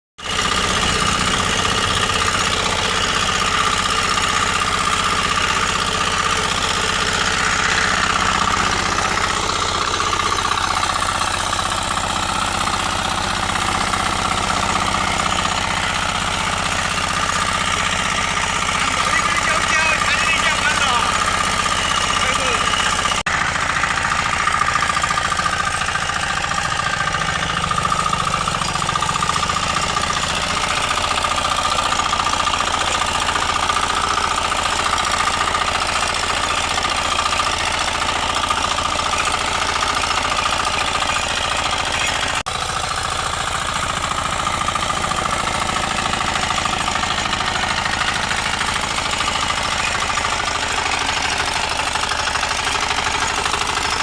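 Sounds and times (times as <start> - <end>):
power weeder engine running: 0.2 - 54.0.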